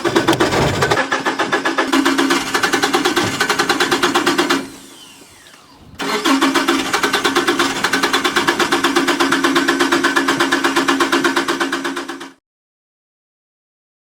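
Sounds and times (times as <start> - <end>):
car engine cranking: 0.0 - 12.4.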